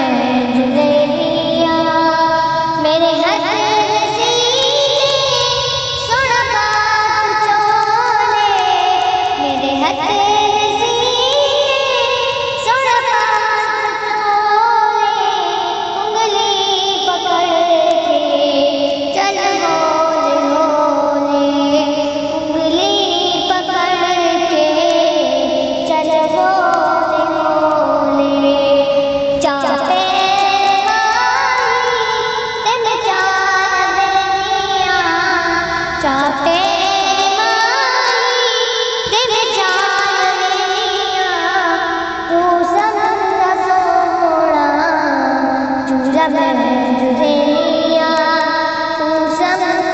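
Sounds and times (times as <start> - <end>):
person singing in high voice: 0.0 - 49.9.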